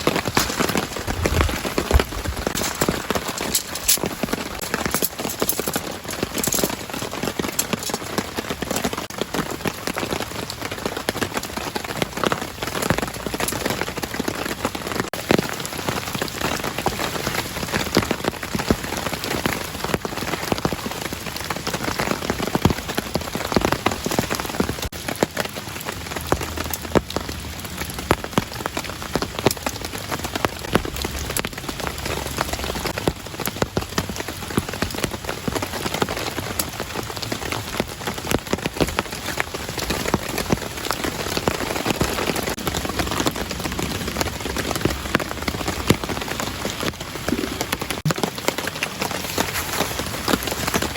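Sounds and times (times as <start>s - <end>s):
raindrops striking: 0.0s - 50.9s
steady rain falling: 0.0s - 50.9s.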